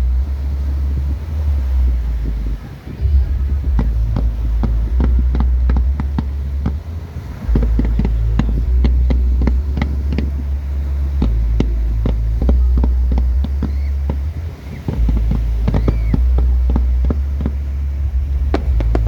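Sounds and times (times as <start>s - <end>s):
deep low rumble: 0.0s - 19.0s
fireworks bangs and crackles: 2.2s - 19.0s.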